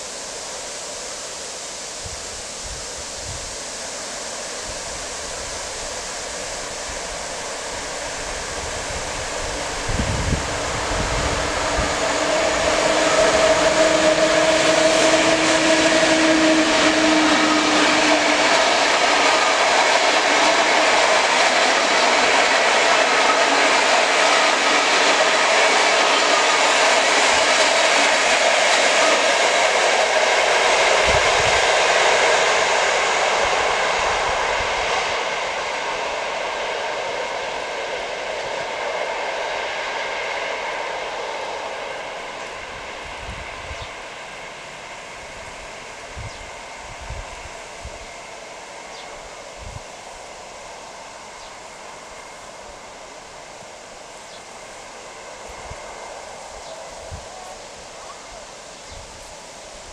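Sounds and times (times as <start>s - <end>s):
locomotive humming: 0.0s - 59.9s
train wheels rushing on rails: 0.0s - 59.9s.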